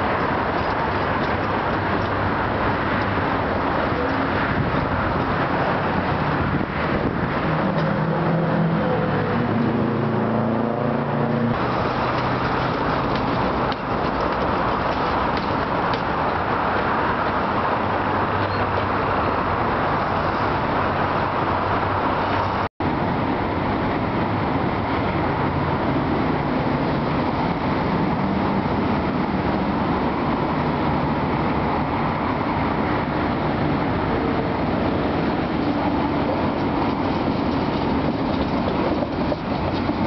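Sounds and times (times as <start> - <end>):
tram running on rails: 0.0 - 40.0.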